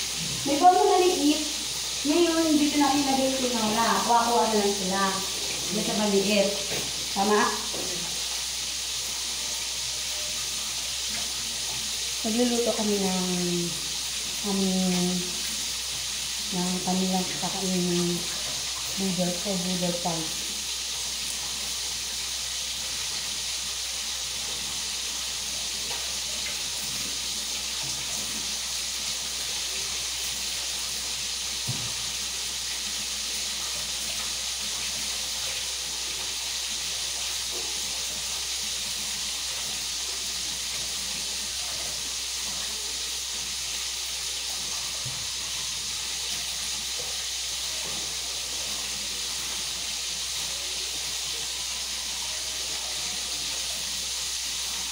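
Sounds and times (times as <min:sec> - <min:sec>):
food sizzling on stove: 0:00.0 - 0:54.9.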